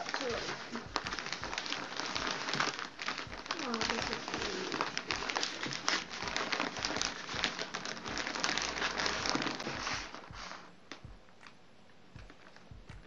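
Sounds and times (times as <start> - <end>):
wrapping paper crinkling: 0.0 - 11.6, 12.2 - 13.0.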